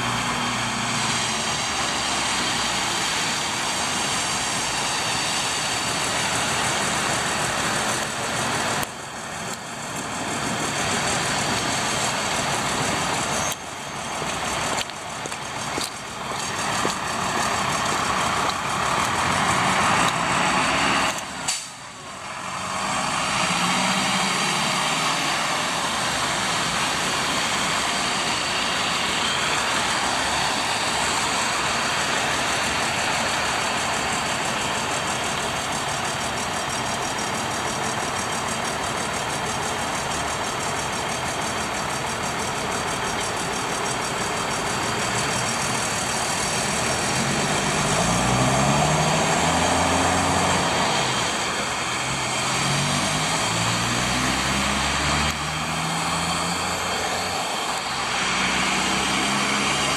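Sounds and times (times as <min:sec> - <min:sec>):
tyres hissing on wet road: 0:00.0 - 0:59.9
vehicle engines at low speed: 0:00.0 - 0:59.9.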